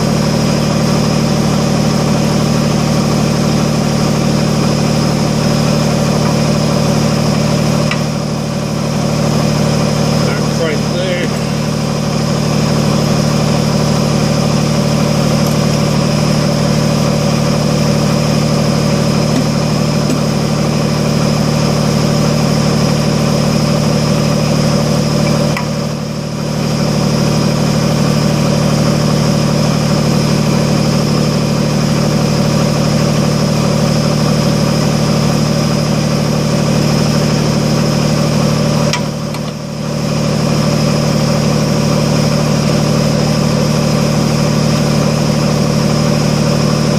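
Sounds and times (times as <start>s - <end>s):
tractor diesel engine idling: 0.0s - 46.9s.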